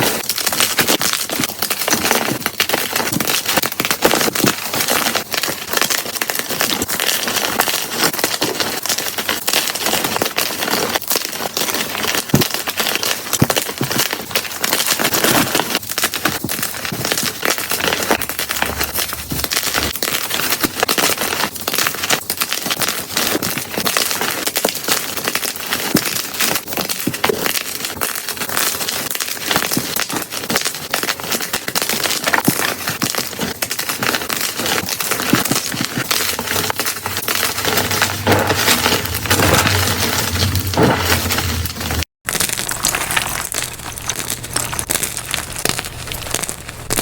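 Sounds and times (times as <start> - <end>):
chalk crushing crunches: 0.0 - 47.0.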